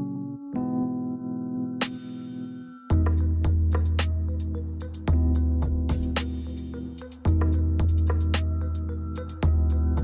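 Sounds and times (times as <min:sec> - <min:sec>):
electric piano chords: 0:00.0 - 0:10.0.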